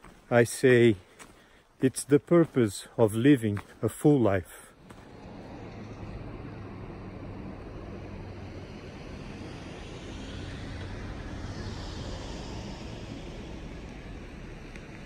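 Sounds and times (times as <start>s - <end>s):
vehicle rumble with hiss: 0.3s - 15.0s.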